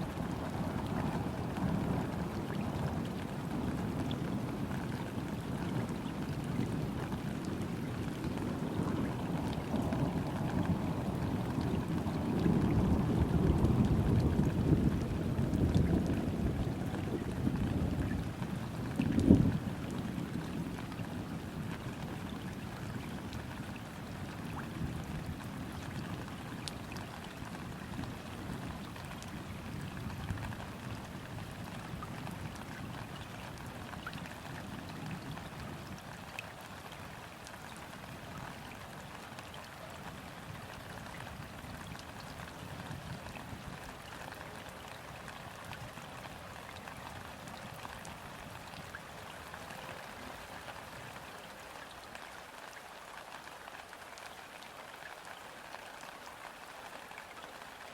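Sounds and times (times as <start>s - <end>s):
rain falling on river: 0.0s - 57.9s.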